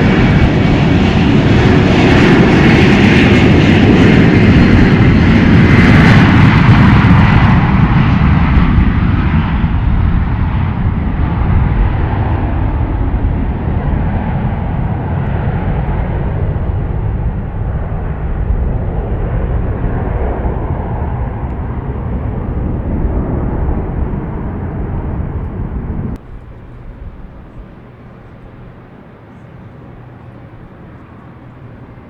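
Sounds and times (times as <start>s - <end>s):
airliner engines rumbling: 0.0s - 32.0s.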